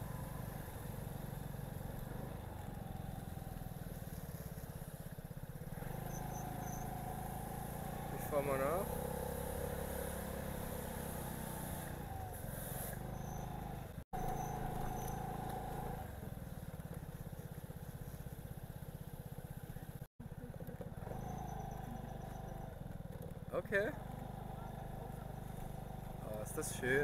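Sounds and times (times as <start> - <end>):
scooter engine running: 0.0 - 27.0.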